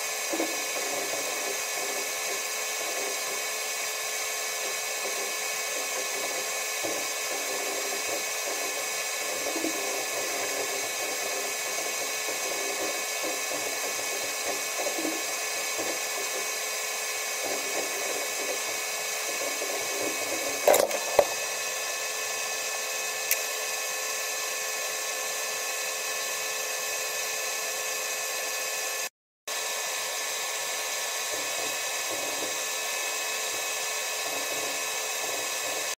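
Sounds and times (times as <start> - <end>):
steady whining tones: 0.0 - 28.9.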